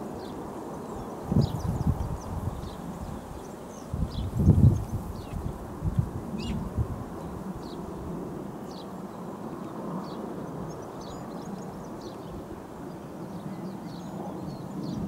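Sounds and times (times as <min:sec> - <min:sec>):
small birds chirping: 0:00.2 - 0:05.6, 0:06.4 - 0:07.9, 0:08.7 - 0:15.0.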